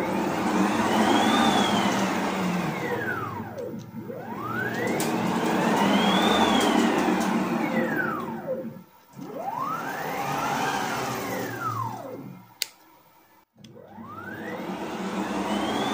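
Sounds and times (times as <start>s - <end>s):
stepper motors whining: 0.0s - 12.6s, 13.7s - 15.9s.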